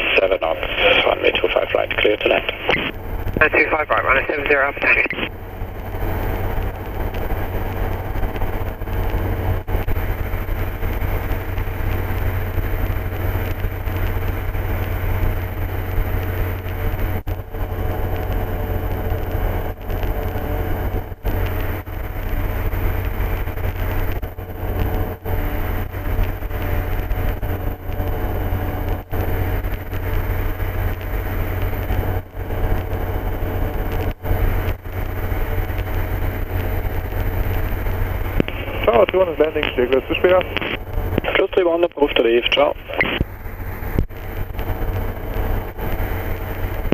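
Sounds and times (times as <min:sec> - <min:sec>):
aircraft engine and propeller drone: 0:00.0 - 0:46.9.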